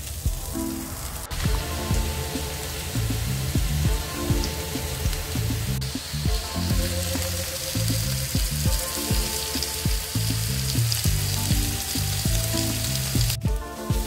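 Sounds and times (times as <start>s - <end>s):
background music: 0.0s - 14.0s
vegetables sizzling in oil: 0.0s - 14.0s.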